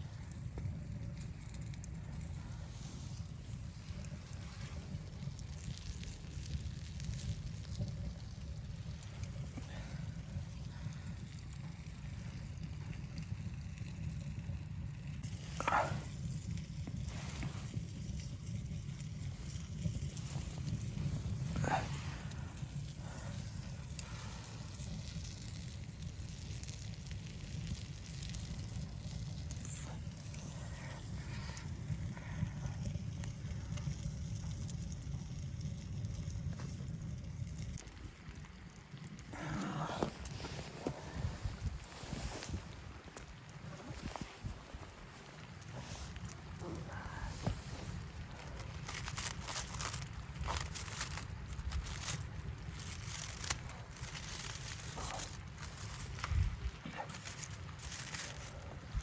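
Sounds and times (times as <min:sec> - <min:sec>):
low rumble of wind: 0:00.0 - 0:59.0
wood stove fire crackling: 0:00.0 - 0:59.0.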